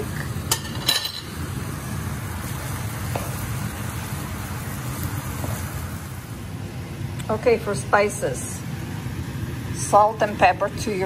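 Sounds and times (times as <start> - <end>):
vegetables and meat sauteing: 0.0 - 11.0.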